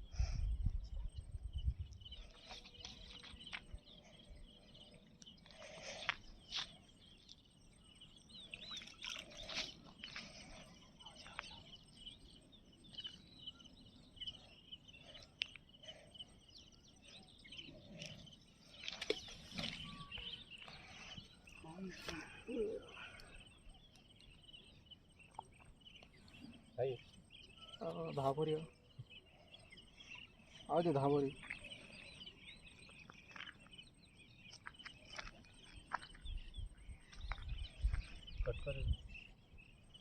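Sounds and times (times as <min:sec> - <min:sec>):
birds chirping and calling: 0:00.0 - 0:40.0.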